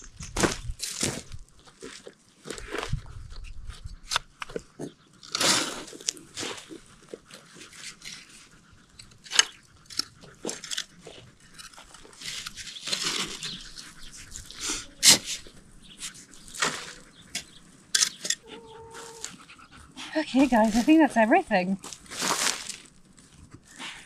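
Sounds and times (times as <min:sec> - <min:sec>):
scraping and crunching of soil: 0:00.0 - 0:24.0.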